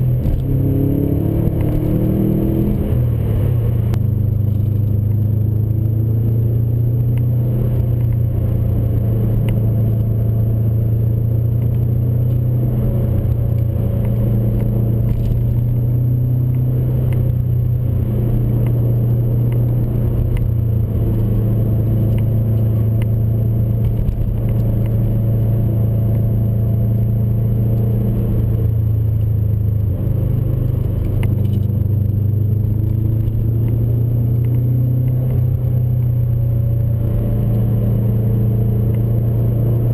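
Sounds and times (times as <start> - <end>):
car engine and exhaust: 0.0 - 39.9.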